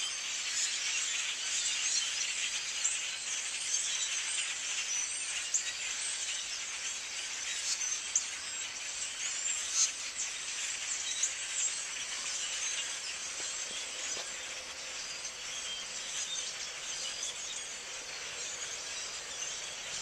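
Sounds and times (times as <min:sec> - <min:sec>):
flock of birds chirping: 0:00.0 - 0:20.0.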